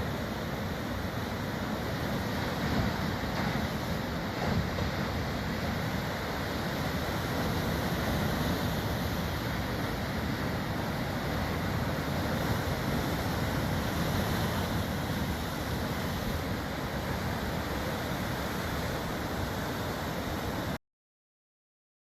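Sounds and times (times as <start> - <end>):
waves breaking on beach: 0.0 - 20.8.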